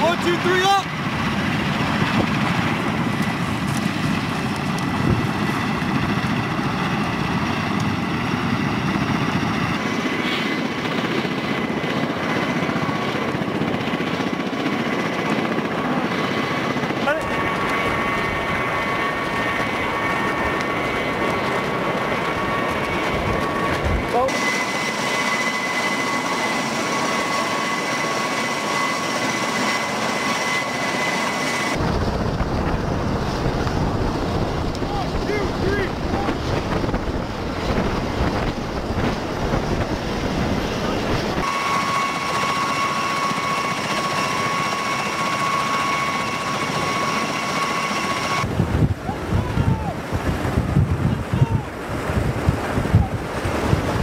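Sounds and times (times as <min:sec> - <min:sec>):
aircraft rotors roaring: 0:00.0 - 0:54.0
high turbine whine: 0:00.0 - 0:54.0
rush of turning propellers: 0:00.0 - 0:54.0
wind buffeting microphone: 0:00.0 - 0:54.0.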